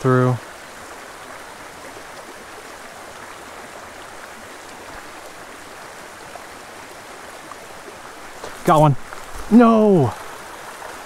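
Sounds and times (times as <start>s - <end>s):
creek flowing over rocks: 0.0s - 11.0s.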